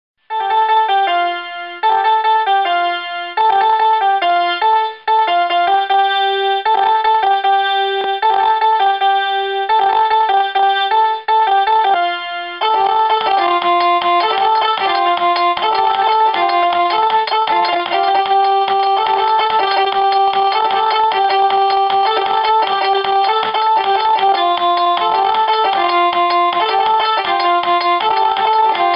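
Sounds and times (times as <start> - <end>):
electronic keyboard melody: 0.3 - 28.9.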